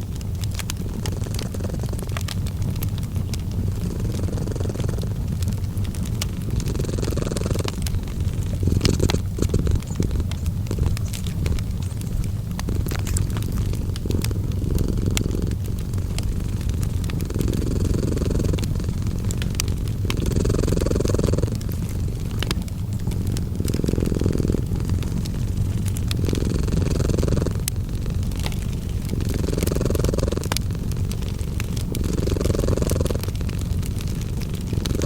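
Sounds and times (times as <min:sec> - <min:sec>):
cat purring: 0:00.0 - 0:35.0
wood fire crackling: 0:00.0 - 0:35.0.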